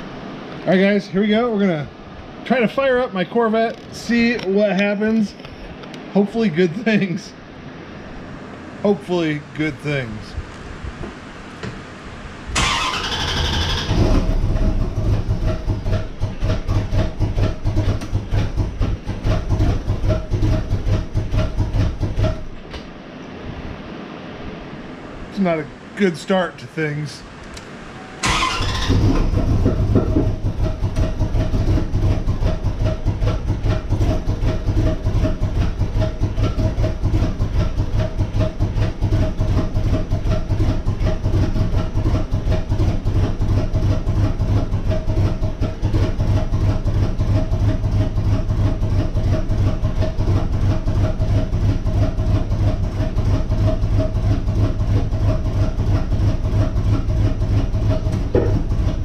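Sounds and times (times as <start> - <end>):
car engine idling unevenly: 0.0 - 23.0, 24.8 - 59.0.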